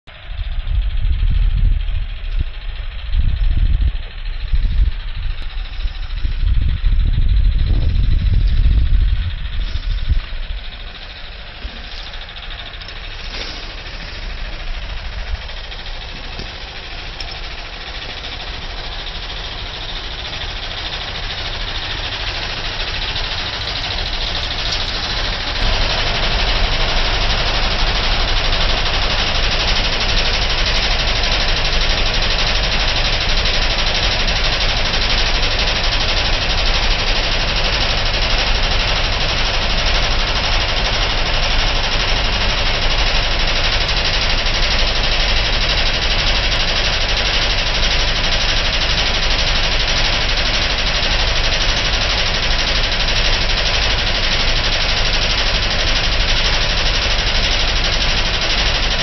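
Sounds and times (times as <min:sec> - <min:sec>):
air conditioner rapid clatter: 0:00.1 - 0:59.0.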